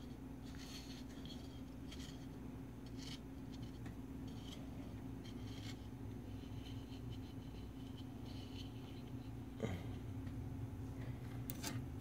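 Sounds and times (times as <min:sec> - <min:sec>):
amplifier electrical hum: 0:00.0 - 0:12.0.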